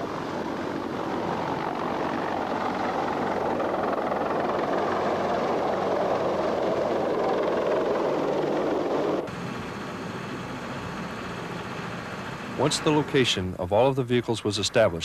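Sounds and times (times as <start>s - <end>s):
helicopter rotor and engine: 0.0s - 13.5s.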